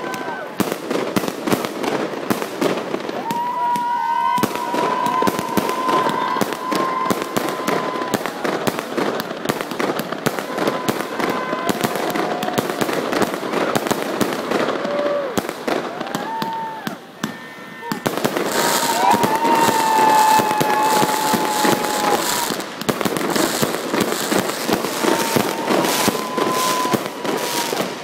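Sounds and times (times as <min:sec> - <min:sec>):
fireworks bangs and crackles: 0:00.0 - 0:28.0
firework whistles: 0:02.7 - 0:14.0, 0:14.6 - 0:28.0.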